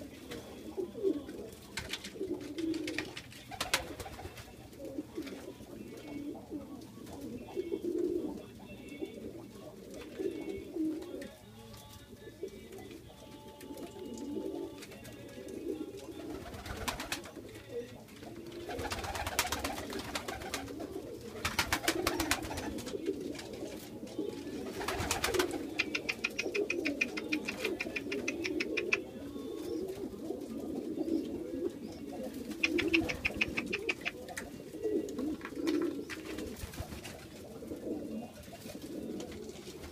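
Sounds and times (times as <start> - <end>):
pigeons cooing: 0.0 - 11.4, 12.3 - 39.9.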